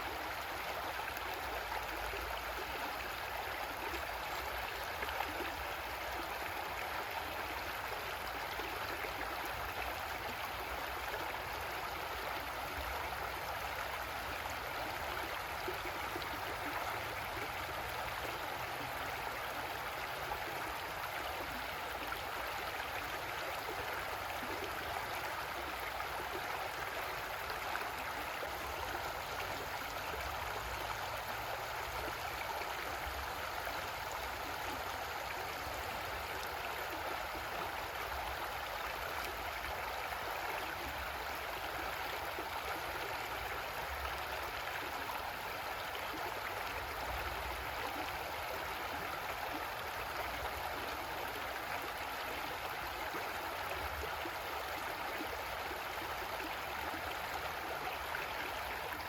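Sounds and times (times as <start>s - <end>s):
creek water flowing over rocks: 0.0s - 59.0s.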